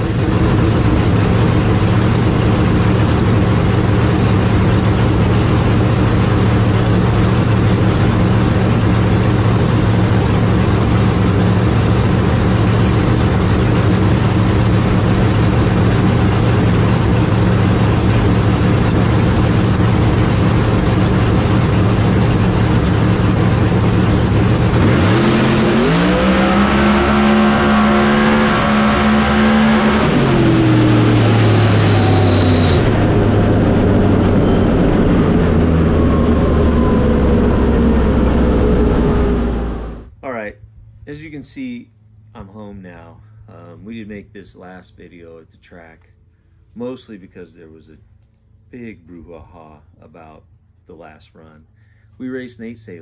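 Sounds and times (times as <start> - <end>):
race car engine idling and revving: 0.0 - 42.5.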